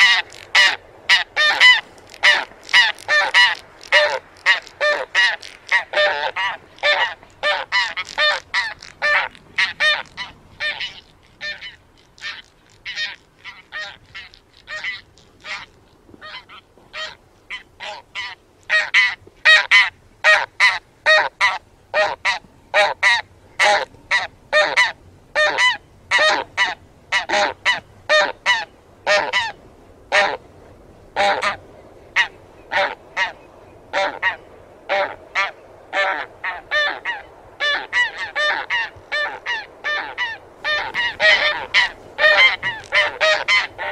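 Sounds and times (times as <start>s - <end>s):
geese honking in flight: 0.0s - 30.4s, 31.2s - 43.9s.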